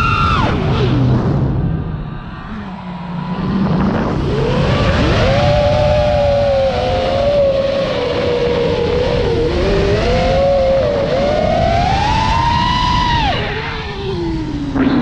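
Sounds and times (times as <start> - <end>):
low wind rumble: 0.0 - 15.0
quadcopter motors whining: 2.5 - 15.0.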